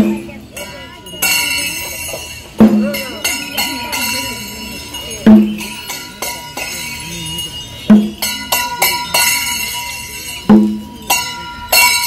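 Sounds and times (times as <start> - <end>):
heavy low bell strikes: 0.0 - 12.0
light metallic clinks: 0.0 - 12.0
steady bell ringing tones: 0.0 - 12.0.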